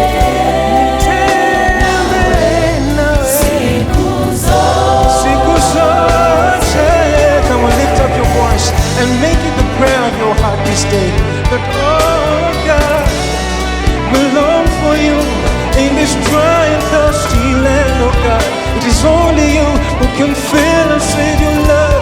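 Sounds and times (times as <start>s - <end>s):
bass: 0.0s - 22.0s
drums: 0.0s - 22.0s
gospel song with band: 0.0s - 22.0s
melodic lead: 0.0s - 22.0s.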